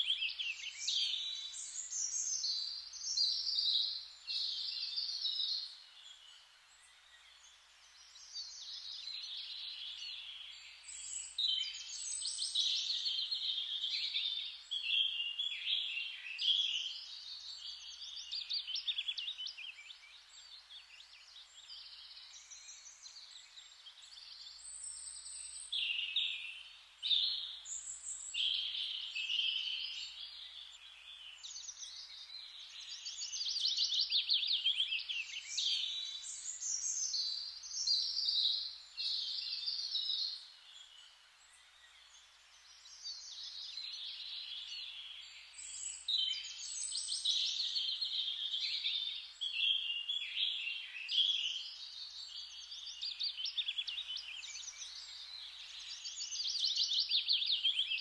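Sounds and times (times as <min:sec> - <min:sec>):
faint steady hiss: 0:00.0 - 0:58.0
songbirds singing: 0:00.0 - 0:58.0.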